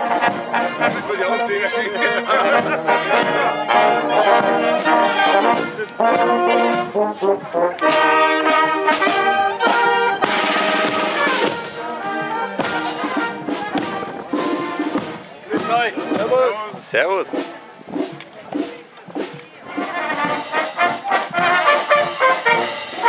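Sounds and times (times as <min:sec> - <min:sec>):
marching brass band playing: 0:00.0 - 0:23.0.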